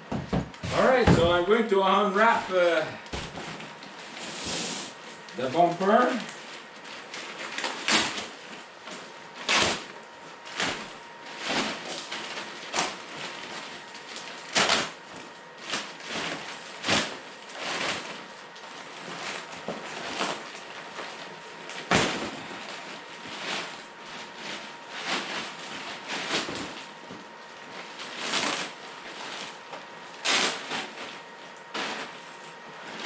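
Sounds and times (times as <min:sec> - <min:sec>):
packaging wrap crinkling: 0:00.6 - 0:33.0.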